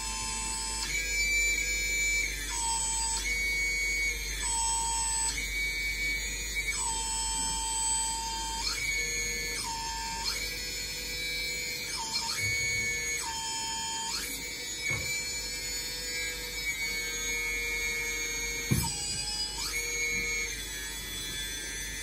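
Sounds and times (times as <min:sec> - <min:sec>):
electric hydraulic pump whine: 0:00.0 - 0:22.0.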